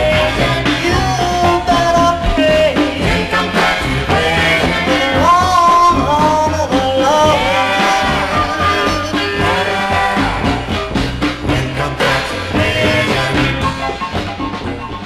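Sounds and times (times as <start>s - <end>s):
soul music band playing: 0.0s - 15.0s.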